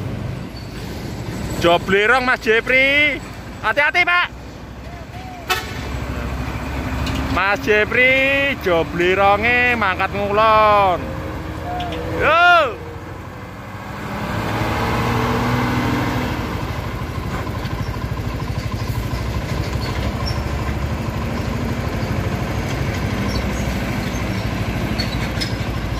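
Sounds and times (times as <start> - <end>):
diesel truck engine pulling away: 0.0 - 25.9.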